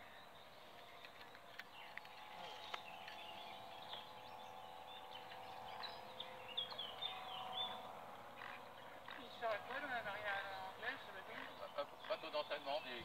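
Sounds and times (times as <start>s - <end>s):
birds chirping: 0.0s - 13.0s
model boat motor hum: 0.0s - 13.0s.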